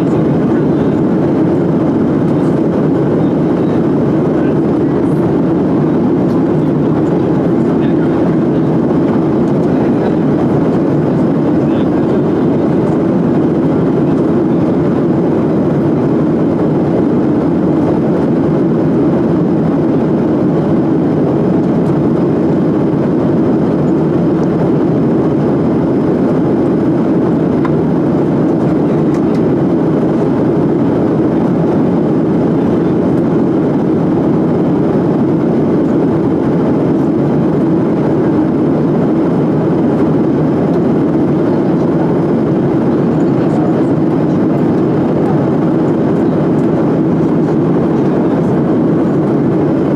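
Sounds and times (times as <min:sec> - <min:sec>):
jet cabin drone: 0:00.0 - 0:49.9.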